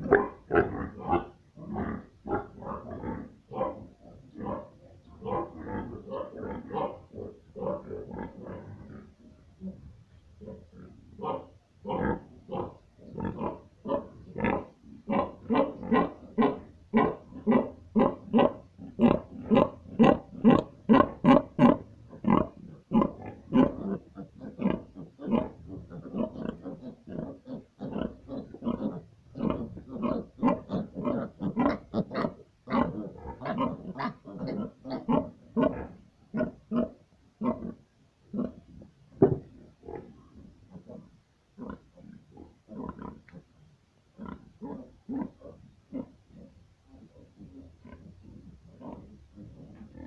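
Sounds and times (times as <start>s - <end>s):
pigs grunting: 0.0s - 43.6s, 44.2s - 50.0s.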